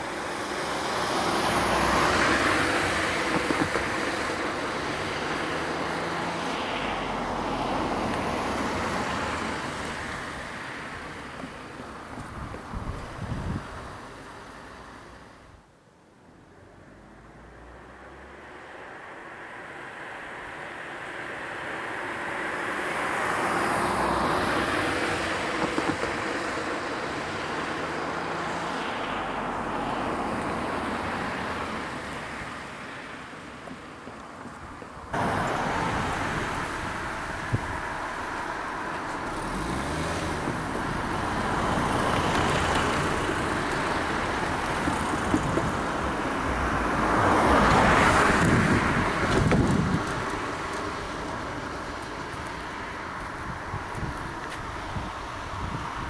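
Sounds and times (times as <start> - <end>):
cars driving past: 0.0 - 15.6, 16.3 - 56.0.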